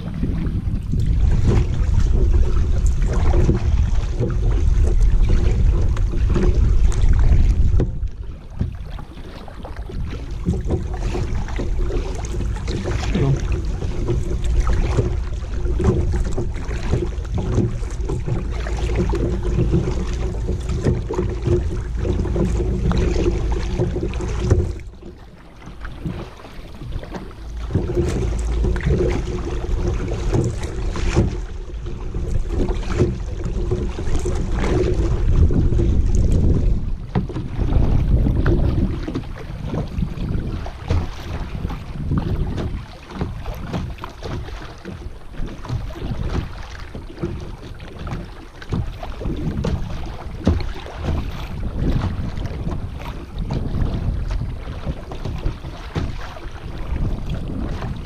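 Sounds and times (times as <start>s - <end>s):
paddle strokes splashing: 0.0s - 58.0s
wind rumble on microphone: 0.0s - 58.0s.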